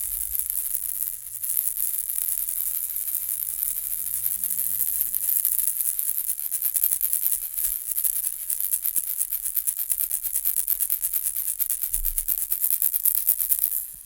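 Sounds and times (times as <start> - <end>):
baby rattle shaken: 0.0 - 14.0.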